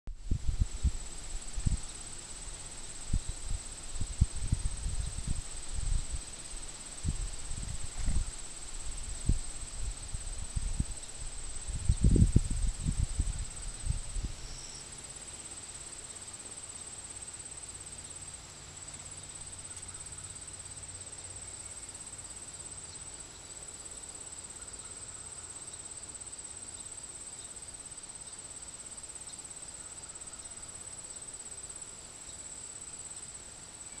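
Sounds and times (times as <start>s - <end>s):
crickets trilling: 0.2s - 34.0s.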